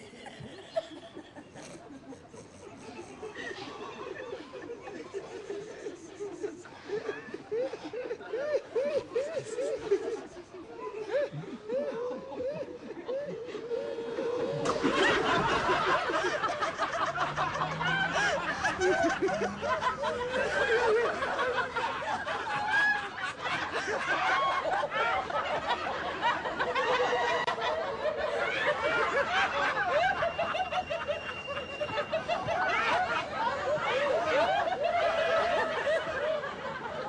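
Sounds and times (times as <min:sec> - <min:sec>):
many people laughing: 0:00.0 - 0:37.0.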